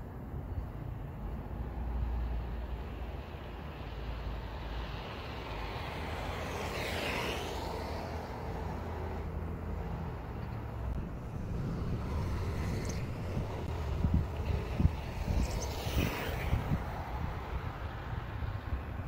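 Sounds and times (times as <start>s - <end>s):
electric scooter passing by: 3.2s - 19.0s.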